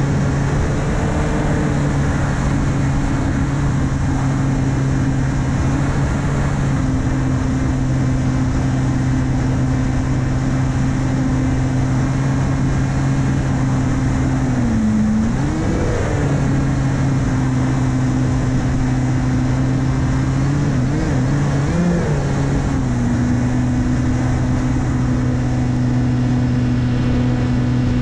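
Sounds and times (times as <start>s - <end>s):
propeller hum: 0.0s - 28.0s
wind rush on microphone: 0.0s - 28.0s.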